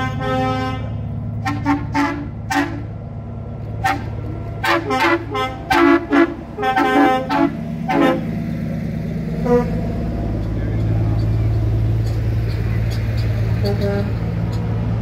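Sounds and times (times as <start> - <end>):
truck horn toots: 0.0 - 3.0, 3.8 - 8.6, 9.3 - 14.6
diesel engines droning: 0.0 - 15.0.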